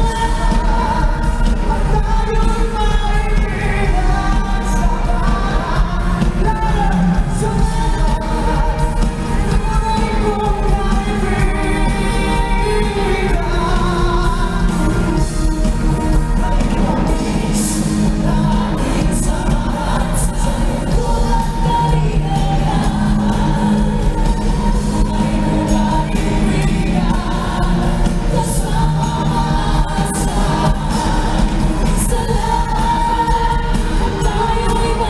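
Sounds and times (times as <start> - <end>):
backing music with heavy bass: 0.0 - 35.0
men and woman singing pop song: 0.0 - 35.0.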